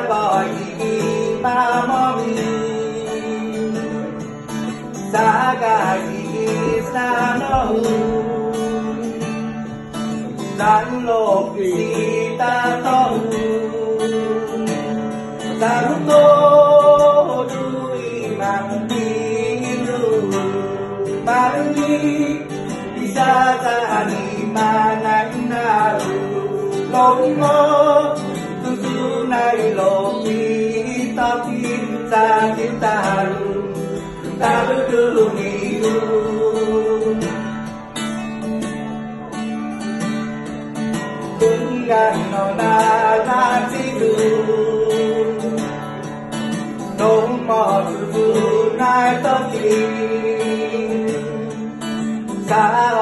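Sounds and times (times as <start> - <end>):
person singing: 0.0 - 37.6, 41.2 - 45.9, 46.7 - 53.0
acoustic guitar strummed and picked: 0.0 - 53.0.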